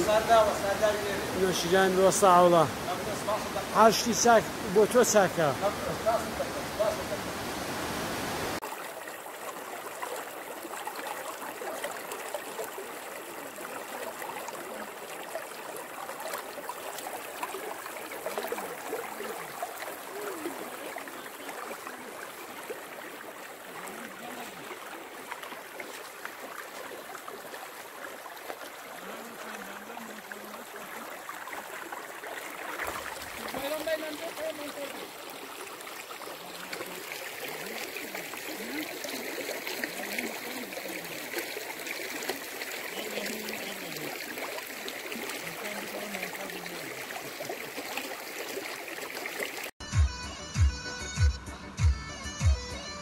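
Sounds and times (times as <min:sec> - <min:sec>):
loud rush of water: 0:00.0 - 0:49.8
stream rushing over stones: 0:00.0 - 0:49.8.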